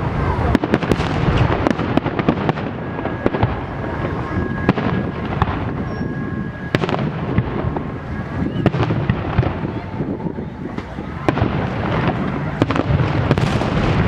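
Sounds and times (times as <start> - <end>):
fireworks cracks and pops: 0.0 - 14.0
fireworks rumble: 0.0 - 14.0
thin firework whistle: 0.0 - 14.0.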